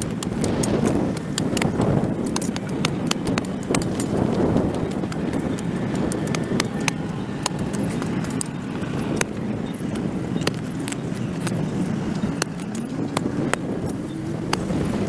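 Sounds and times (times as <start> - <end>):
blade clicking on concrete: 0.0 - 14.7
hand tool scraping dirt: 0.0 - 15.0.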